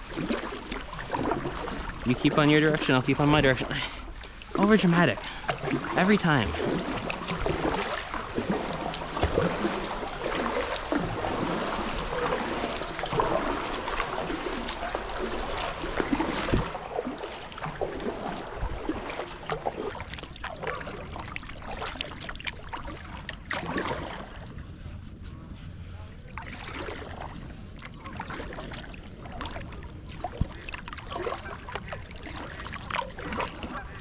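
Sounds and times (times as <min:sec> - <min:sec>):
paddle strokes splashing: 0:00.0 - 0:34.0
water lapping at hull: 0:00.0 - 0:34.0.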